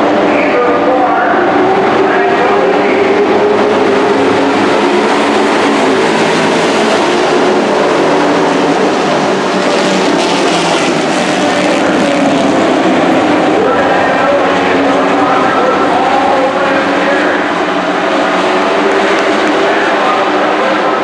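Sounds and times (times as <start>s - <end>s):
race truck engines roaring: 0.0s - 21.0s.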